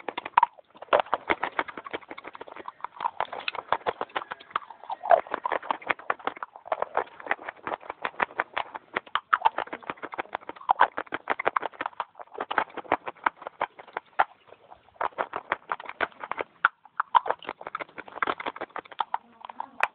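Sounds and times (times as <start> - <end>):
dry clay being chewed: 0.0 - 19.9.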